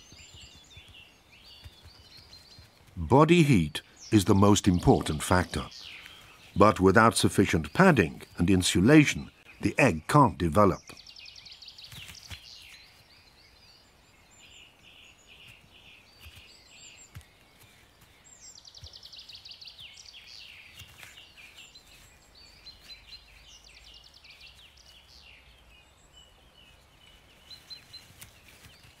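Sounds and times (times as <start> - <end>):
songbirds singing faintly: 0.0 - 29.0.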